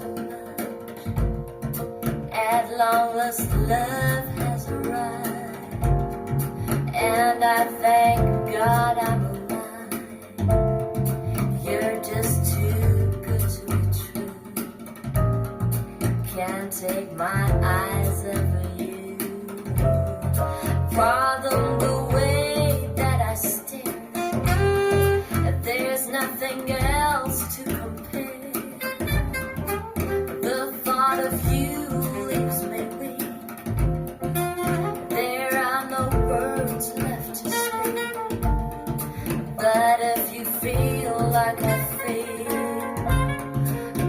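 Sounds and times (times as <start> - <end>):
pop song over speakers: 0.0 - 44.0.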